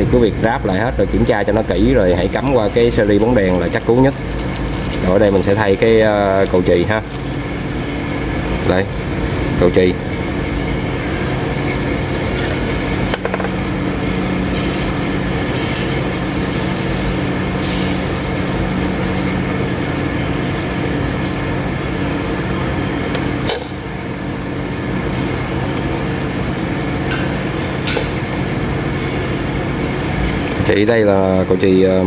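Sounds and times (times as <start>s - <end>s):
background hum: 0.0s - 32.0s.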